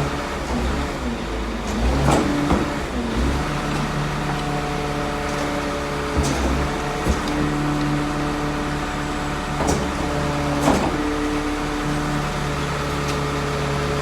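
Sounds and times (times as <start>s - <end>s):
garbage truck engine humming: 0.0s - 14.0s.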